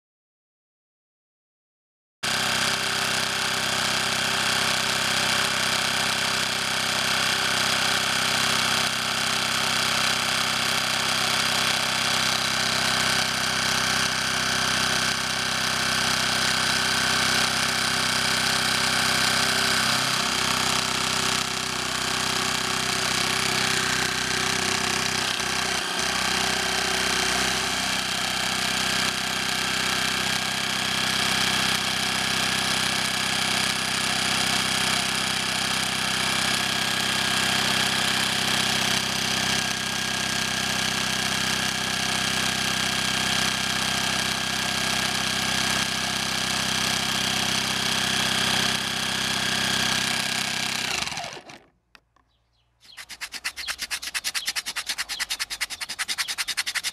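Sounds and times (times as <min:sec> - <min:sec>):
scroll saw cutting wood: 0:02.2 - 0:51.7, 0:52.8 - 0:56.9.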